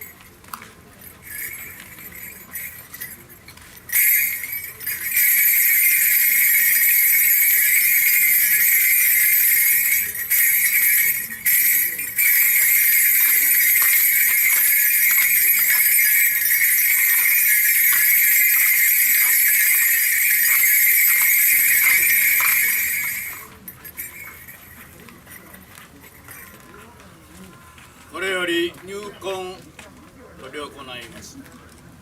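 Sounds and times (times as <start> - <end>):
small bells jingling: 0.0 - 28.3.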